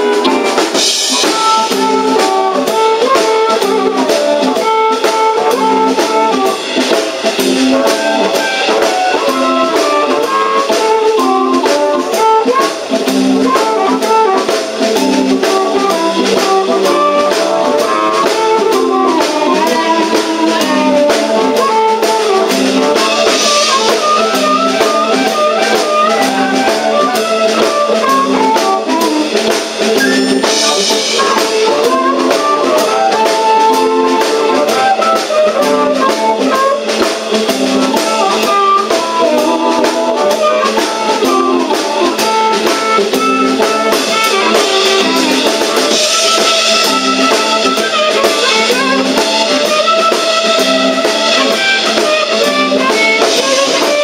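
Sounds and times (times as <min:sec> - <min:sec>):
amplified harmonica: 0:00.0 - 0:54.0
live blues band playing: 0:00.0 - 0:54.0
steady drum beat: 0:00.0 - 0:54.0.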